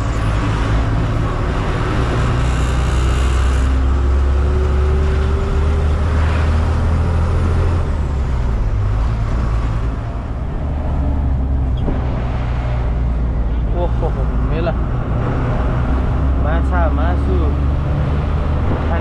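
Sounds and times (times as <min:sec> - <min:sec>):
diesel truck engine rumble: 0:00.0 - 0:19.0
road and tyre noise: 0:00.0 - 0:19.0.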